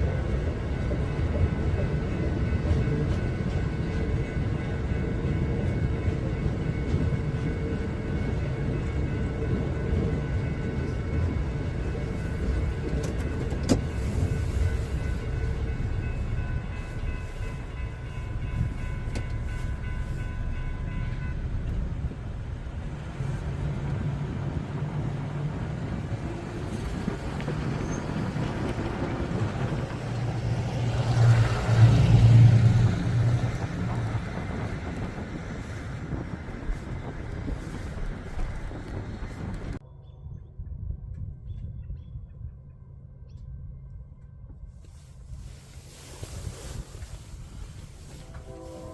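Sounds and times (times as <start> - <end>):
train rumbling past: 0.0 - 48.9.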